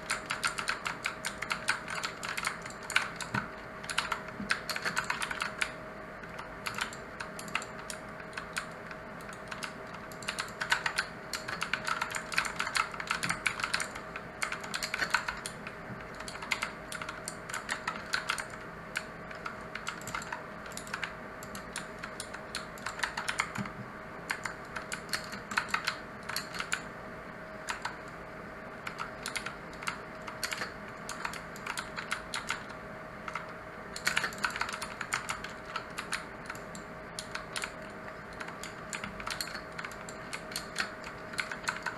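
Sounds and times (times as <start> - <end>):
mechanical keyboard typing: 0.0 - 26.8, 27.7 - 28.2, 28.8 - 41.9
faint steady hum: 0.0 - 41.9.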